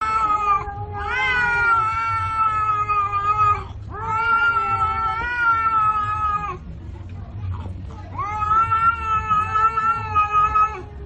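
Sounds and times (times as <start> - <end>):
cat yowling: 0.0 - 6.6, 8.2 - 11.0.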